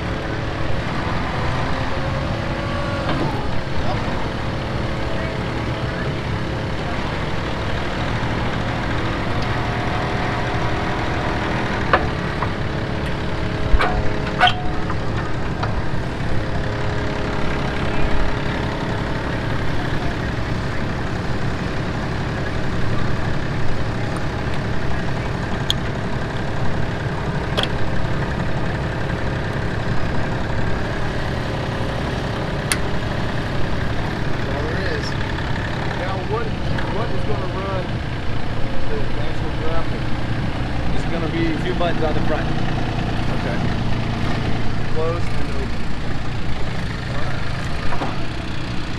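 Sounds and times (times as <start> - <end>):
loader engine idling: 0.0 - 48.9.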